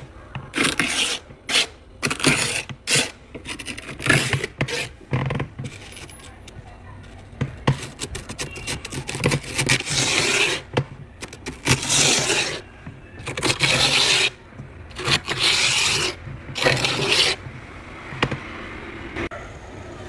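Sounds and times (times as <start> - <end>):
scraping ice by hand: 0.0 - 6.5, 7.6 - 17.5.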